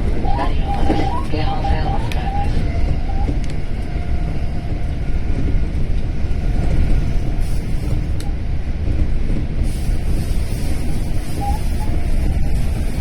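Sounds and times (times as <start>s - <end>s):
faint rail ticks: 0.0s - 13.0s
train rumbling on rails: 0.0s - 13.0s.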